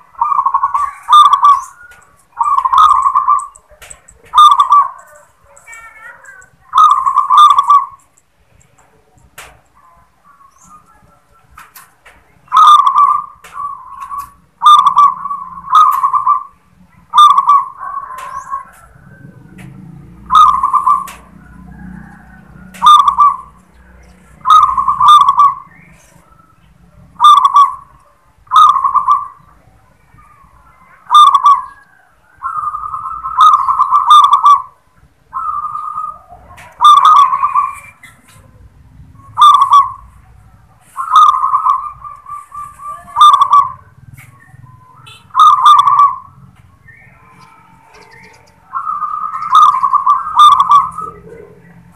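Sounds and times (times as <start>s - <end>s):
dove cooing: 0.0s - 8.1s, 9.0s - 51.9s.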